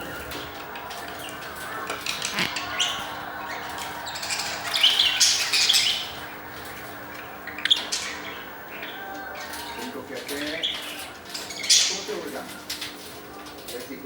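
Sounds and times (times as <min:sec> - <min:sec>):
budgerigars chirping: 0:00.0 - 0:13.6.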